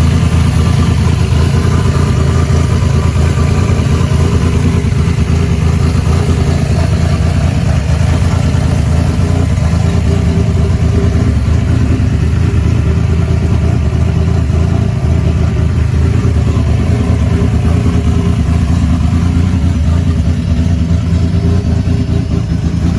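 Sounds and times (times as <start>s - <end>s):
racing engine running: 0.0s - 22.9s.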